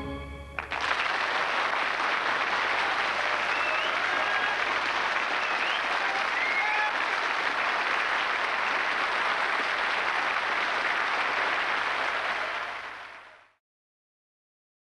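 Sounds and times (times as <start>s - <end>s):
audience applauding: 0.5s - 13.6s.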